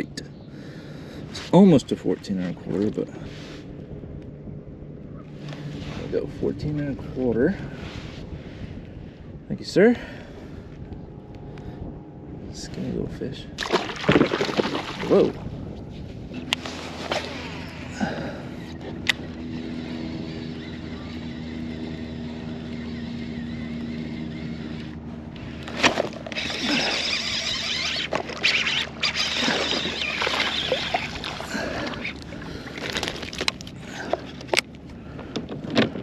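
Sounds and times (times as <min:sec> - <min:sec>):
boat motor humming: 0:00.0 - 0:36.0
low pitched whine: 0:00.0 - 0:36.0.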